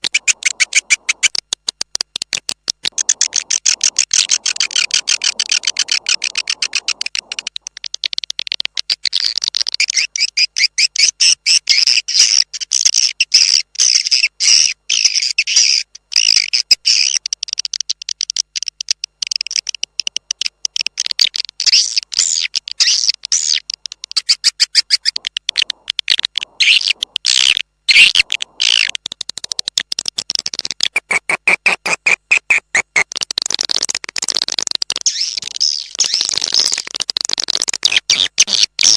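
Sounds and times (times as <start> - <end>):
recorded swiftlet chirping: 0.0 - 38.9.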